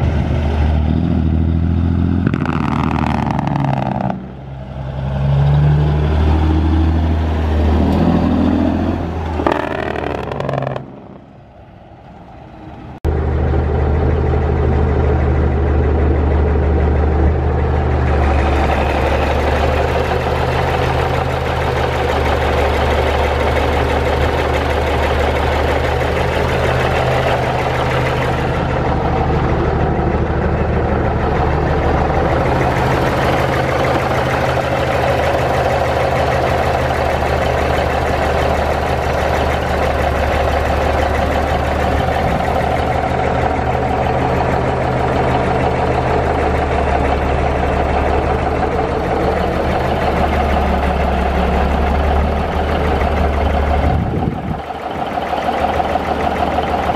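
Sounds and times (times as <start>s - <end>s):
truck diesel engine idling: 0.0s - 56.9s.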